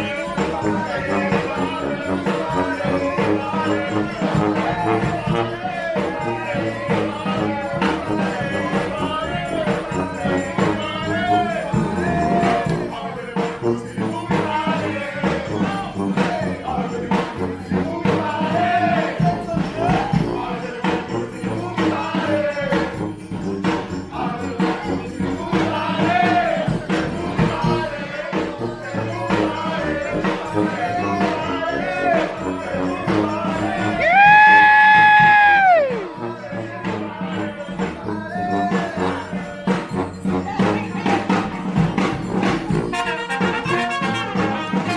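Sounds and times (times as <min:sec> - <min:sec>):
brass band playing: 0:00.0 - 0:44.9
steady drum beat: 0:00.0 - 0:44.9.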